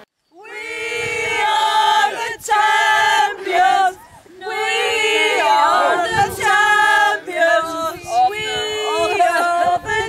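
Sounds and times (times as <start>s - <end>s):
group of people singing: 0.4s - 10.0s.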